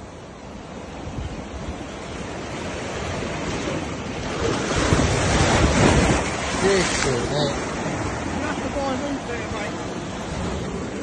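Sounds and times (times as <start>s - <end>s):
sea waves foaming against stone wall: 0.0s - 11.0s
wind buffeting microphone: 0.9s - 11.0s.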